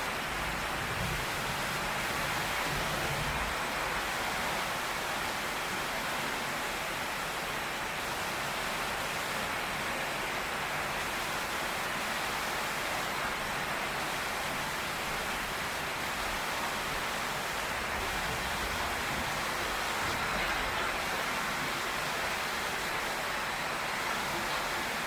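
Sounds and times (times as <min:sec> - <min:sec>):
heavy rain on a tin roof: 0:00.0 - 0:25.0.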